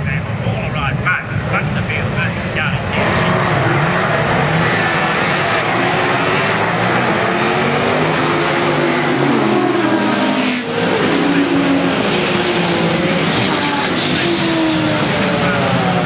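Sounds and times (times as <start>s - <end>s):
racing car engines passing: 0.0s - 16.0s.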